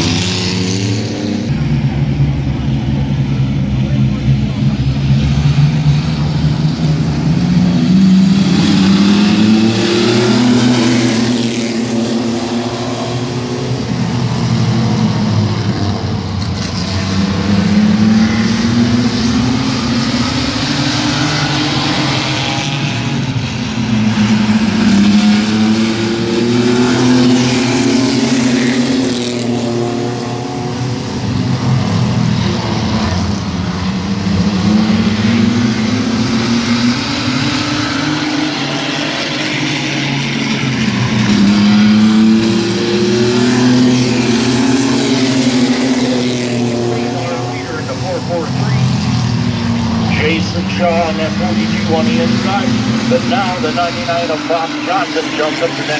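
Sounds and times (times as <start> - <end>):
mini truck engines racing: 0.0 - 55.9.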